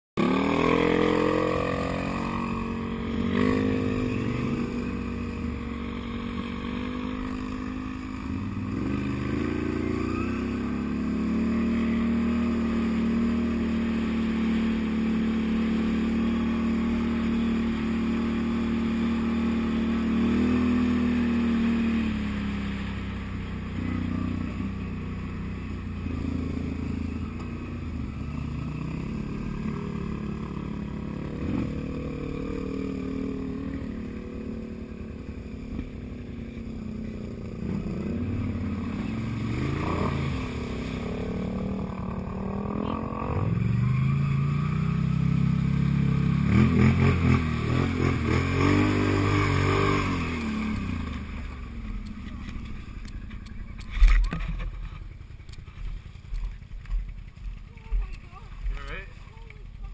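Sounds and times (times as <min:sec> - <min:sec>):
atv engine revving: 0:00.2 - 0:59.9.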